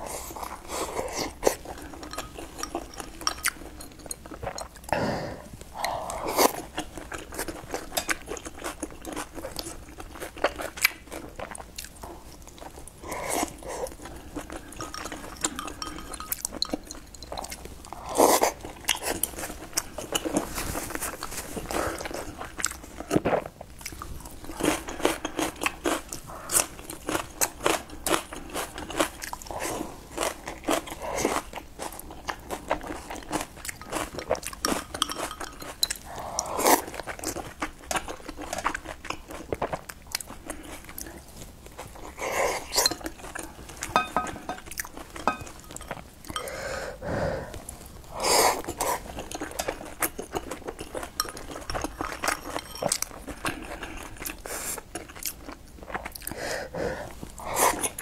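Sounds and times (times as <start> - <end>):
person chewing soft buns: 0.0 - 58.0.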